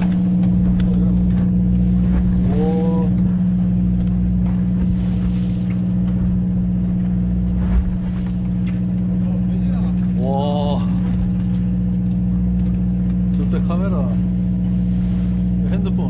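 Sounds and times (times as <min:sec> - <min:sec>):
boat engine humming: 0:00.0 - 0:16.0
water washing along hull: 0:00.0 - 0:16.0.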